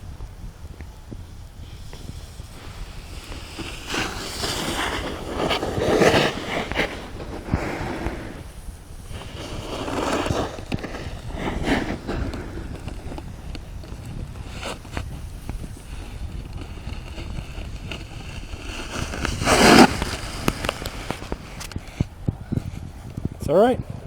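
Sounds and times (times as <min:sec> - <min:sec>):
snowboard scraping on icy snow: 0:01.5 - 0:23.0.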